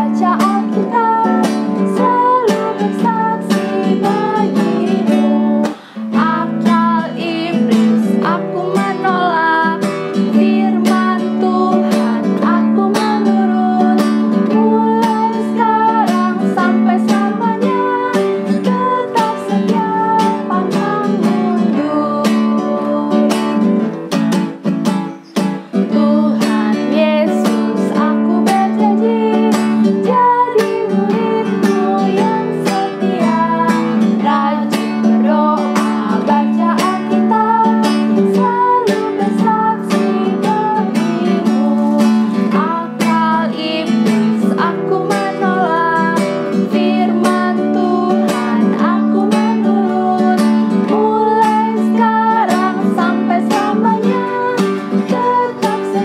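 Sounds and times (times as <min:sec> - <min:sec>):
women singing in unison: 0:00.0 - 0:24.0, 0:25.7 - 0:56.0
acoustic guitar strumming: 0:00.0 - 0:56.0.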